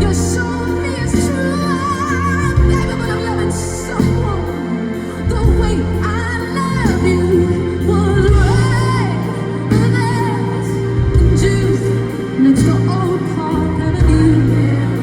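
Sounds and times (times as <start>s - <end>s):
live pop band music: 0.0s - 15.0s.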